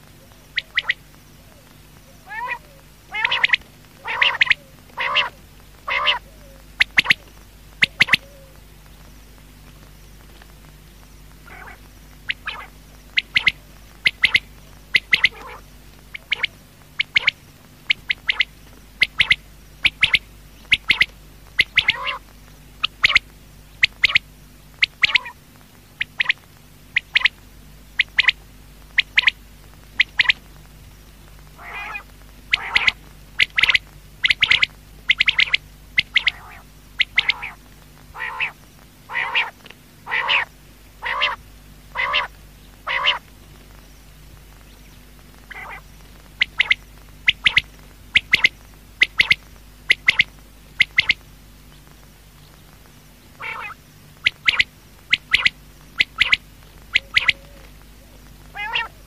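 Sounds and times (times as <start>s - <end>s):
faint low hum: 0.0s - 59.0s
quail calling: 0.2s - 8.6s, 11.4s - 25.4s, 26.0s - 27.4s, 28.0s - 28.4s, 29.0s - 29.4s, 30.0s - 30.4s, 31.6s - 43.3s, 45.5s - 51.2s, 53.3s - 59.0s.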